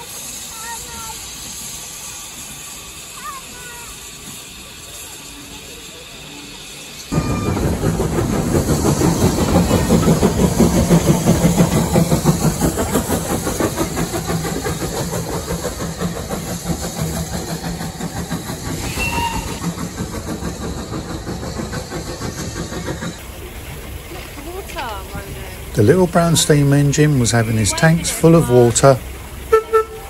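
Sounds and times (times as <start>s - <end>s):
steam engine exhaust beats: 0.0s - 30.0s.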